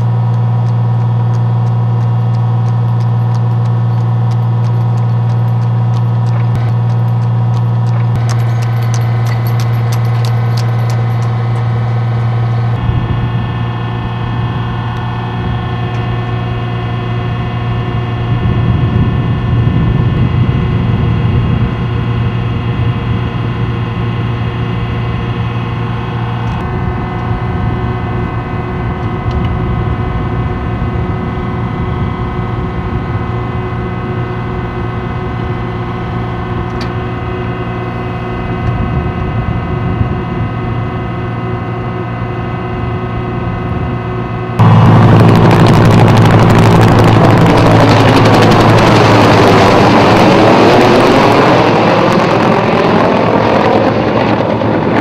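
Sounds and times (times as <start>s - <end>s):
rough low rumble: 0.0s - 41.4s, 42.1s - 55.0s
engine whine: 0.0s - 55.0s
military vehicle engine running: 0.0s - 55.0s.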